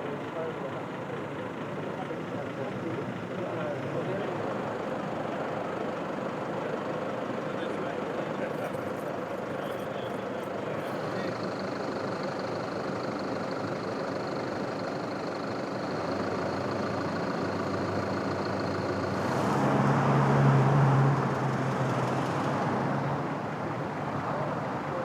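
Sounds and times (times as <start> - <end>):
steady traffic noise: 0.0 - 25.0.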